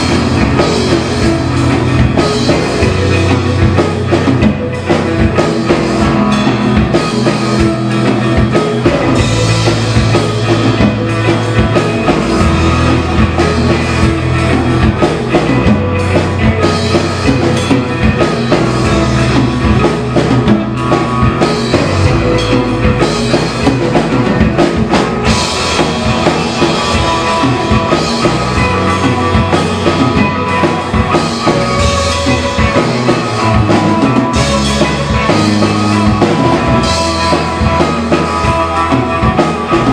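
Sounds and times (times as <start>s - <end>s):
distorted electric guitar: 0.0s - 39.9s
drum kit: 0.0s - 39.9s
electric bass: 0.0s - 39.9s.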